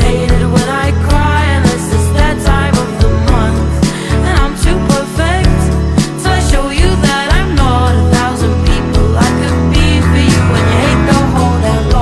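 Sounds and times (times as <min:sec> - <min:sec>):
pop song with vocals: 0:00.0 - 0:12.0.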